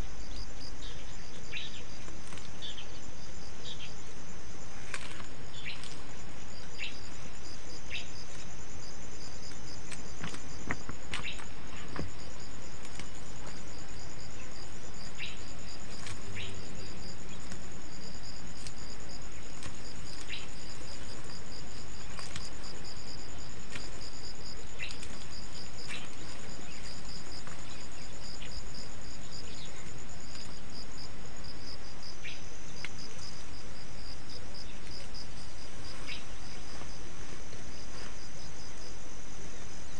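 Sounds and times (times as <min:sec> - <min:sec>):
insects trilling: 0:00.0 - 0:39.9
leaves rustling and clicking: 0:00.8 - 0:31.7, 0:32.7 - 0:38.8.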